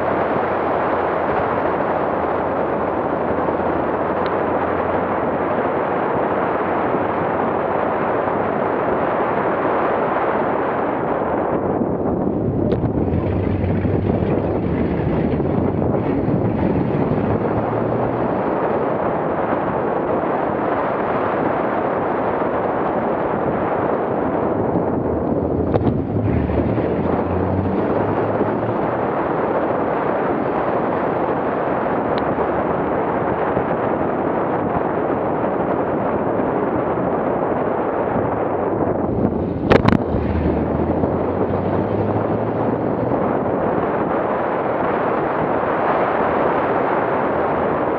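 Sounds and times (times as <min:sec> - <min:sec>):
vehicle engine and tyres drone: 0:00.0 - 0:47.9
wind buffeting microphone: 0:00.0 - 0:47.9.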